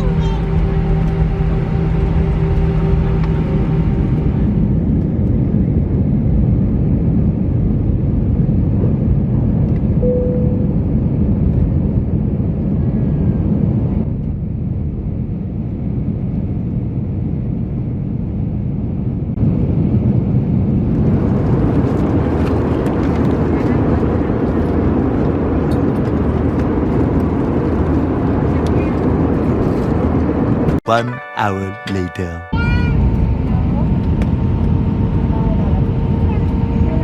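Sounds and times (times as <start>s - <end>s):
airplane cabin engine rumble: 0.0s - 30.8s, 32.5s - 37.0s.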